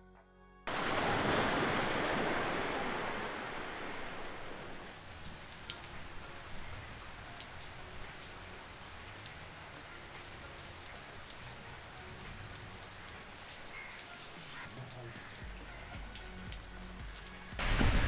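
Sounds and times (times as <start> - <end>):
rain falling: 0.7 - 18.0.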